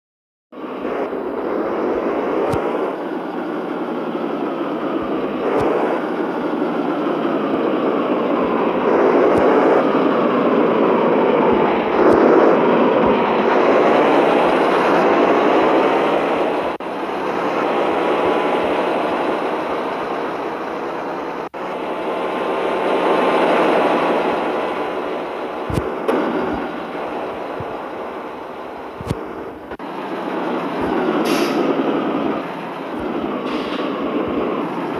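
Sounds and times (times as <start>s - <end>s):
steady rushing noise: 0.6s - 34.9s
truck diesel engine running: 0.6s - 34.9s.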